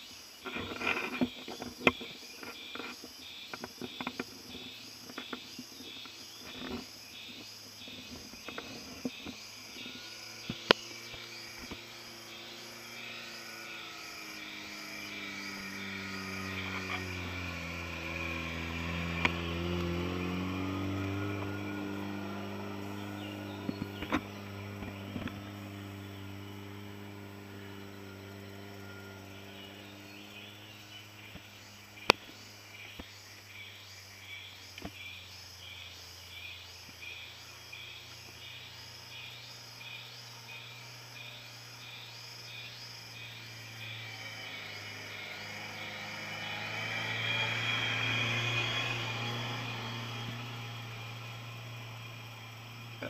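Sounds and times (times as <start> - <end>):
insect chirping: 0.0 - 53.0
car passing: 4.0 - 53.0.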